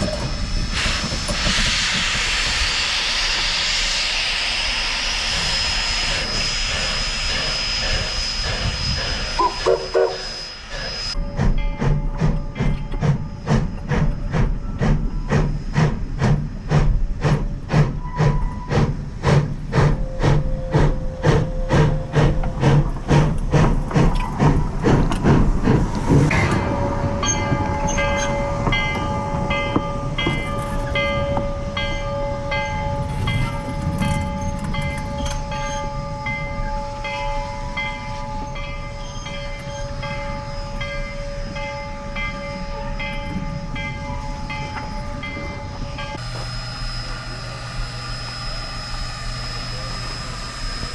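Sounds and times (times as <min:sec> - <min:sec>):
steam locomotive chuffing: 0:00.0 - 0:50.9
steady tones: 0:03.2 - 0:50.9.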